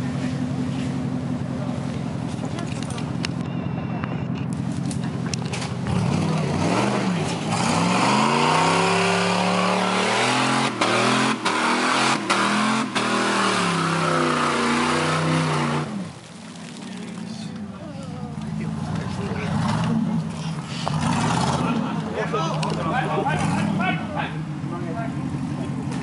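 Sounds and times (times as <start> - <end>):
off-road engine revving: 4.2 - 26.0.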